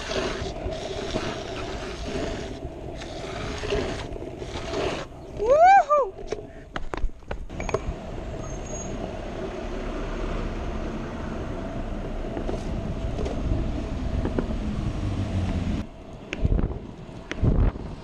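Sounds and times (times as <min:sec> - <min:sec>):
scooter wheels rolling on pavement: 0:00.0 - 0:18.0.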